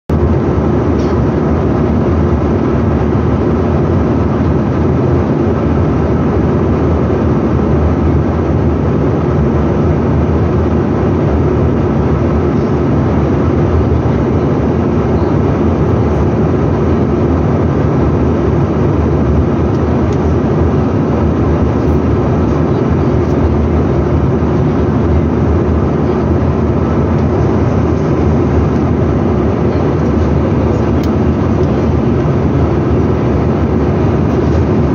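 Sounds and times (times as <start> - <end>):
jet airliner cabin noise: 0.1 - 34.9.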